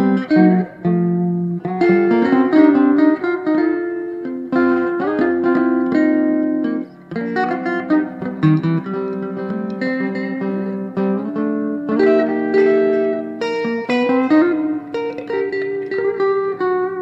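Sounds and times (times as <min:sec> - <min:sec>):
electric guitars playing chords: 0:00.0 - 0:17.0.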